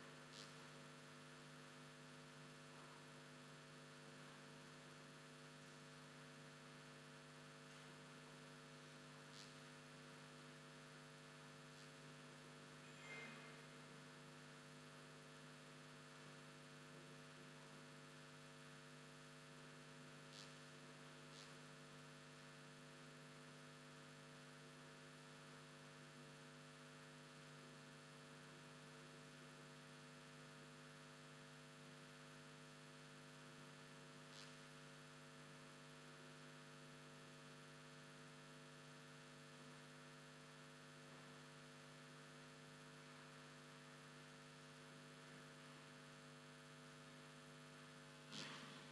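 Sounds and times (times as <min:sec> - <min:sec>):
faint electrical hum: 0:00.0 - 0:48.9.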